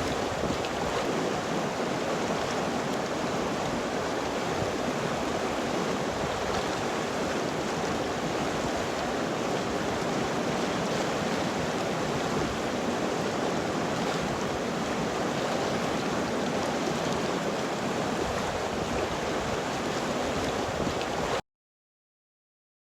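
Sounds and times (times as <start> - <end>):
river water rushing: 0.0 - 21.4.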